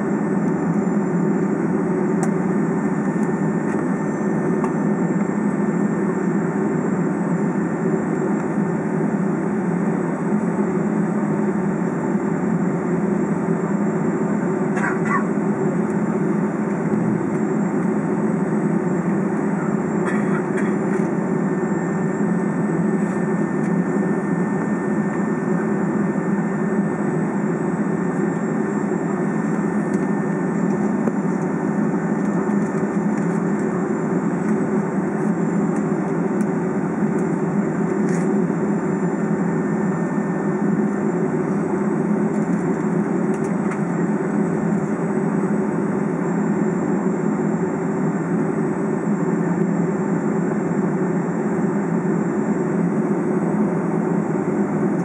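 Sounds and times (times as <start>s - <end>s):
cabin air drone: 0.0s - 55.0s
jet engines idling: 0.0s - 55.0s.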